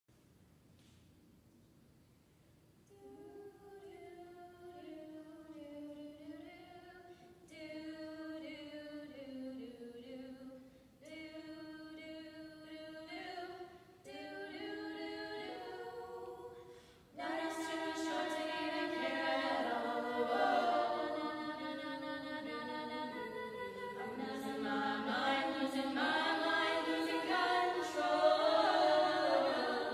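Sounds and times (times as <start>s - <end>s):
women singing a cappella: 2.9s - 29.9s.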